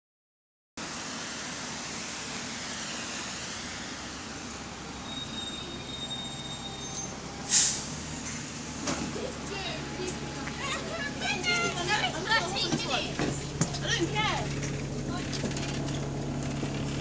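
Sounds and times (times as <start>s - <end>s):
bus engine running: 0.8s - 17.0s.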